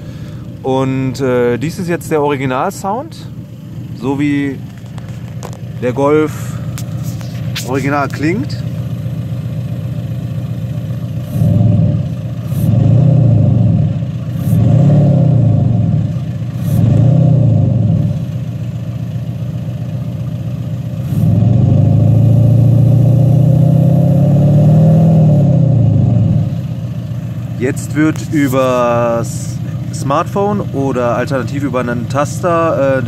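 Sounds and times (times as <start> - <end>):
diesel car engine idling and revving: 0.0 - 33.0.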